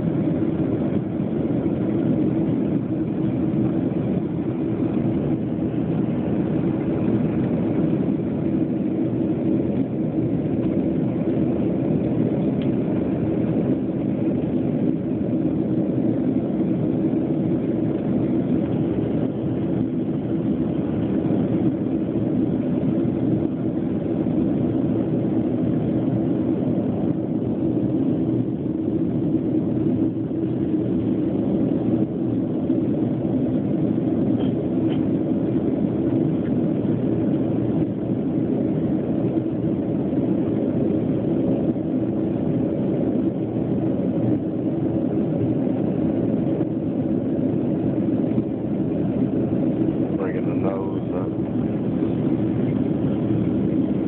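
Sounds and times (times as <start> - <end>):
jet engine cabin drone: 0.0 - 54.0.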